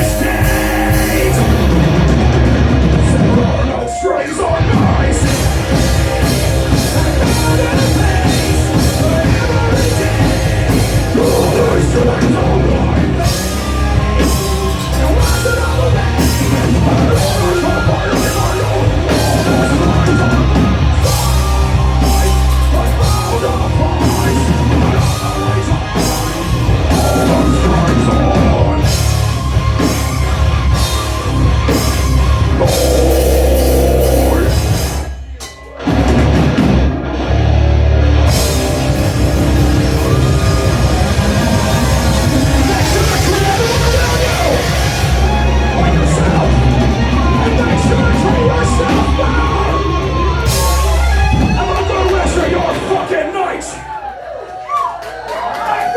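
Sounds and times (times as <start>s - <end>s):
drum kit beat: 0.0s - 37.2s, 38.0s - 53.2s
heavy rock band playing: 0.0s - 54.0s.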